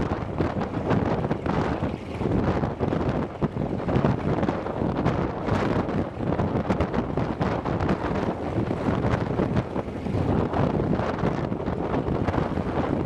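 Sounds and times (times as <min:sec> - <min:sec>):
radial aircraft engine running: 0:00.0 - 0:13.0
wind buffeting microphone: 0:00.0 - 0:13.0.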